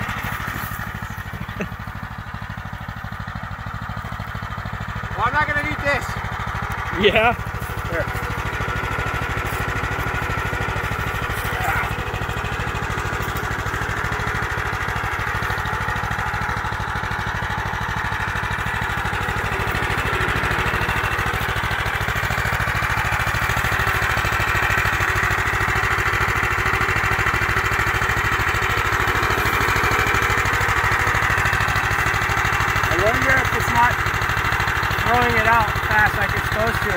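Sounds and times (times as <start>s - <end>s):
go-kart engine running: 0.0s - 36.9s.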